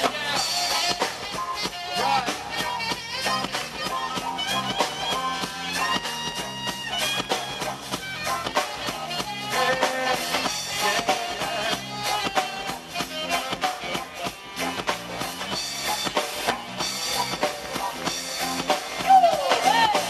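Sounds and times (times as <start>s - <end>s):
reggae band playing: 0.0s - 20.0s.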